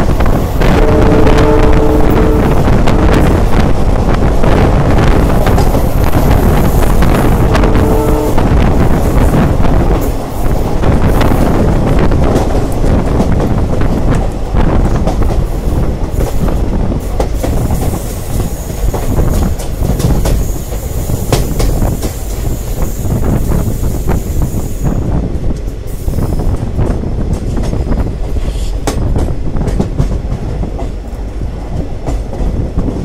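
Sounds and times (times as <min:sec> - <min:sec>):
train rolling rumble: 0:00.0 - 0:33.0.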